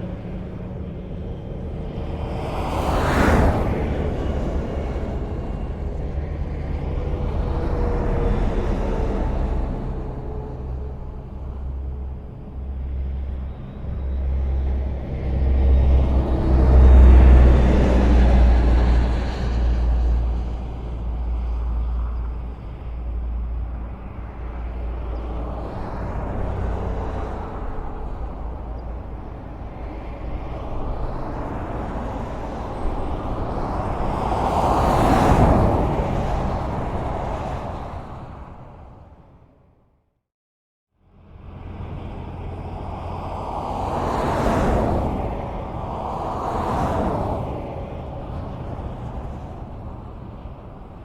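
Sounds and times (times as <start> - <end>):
close vehicle passing: 0.0 - 39.4, 41.2 - 51.0
highway traffic rumble: 0.0 - 40.1, 40.9 - 51.0.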